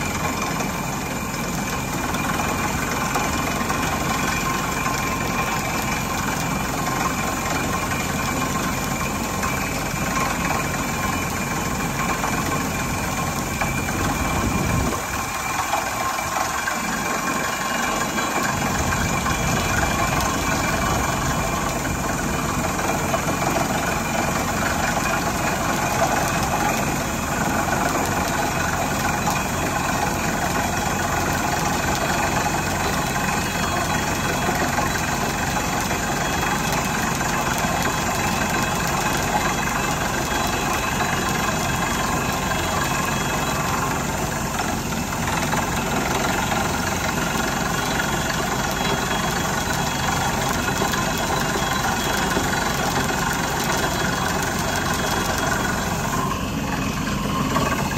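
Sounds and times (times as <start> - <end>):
clatter of drilling: 0.0 - 57.9
drilling rig engine rumble: 0.0 - 57.9.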